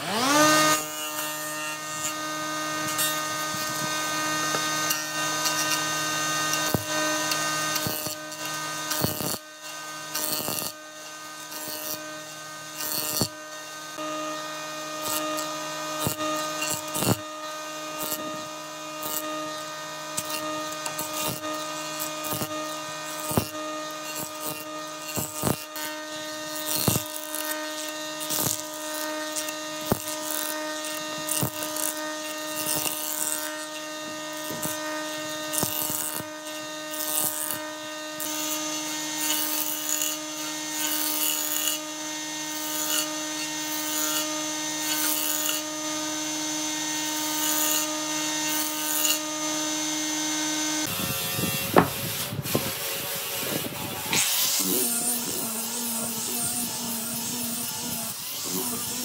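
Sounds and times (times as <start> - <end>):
jointer motor whine: 0.0 - 59.0
wood cutting bursts: 0.0 - 59.0.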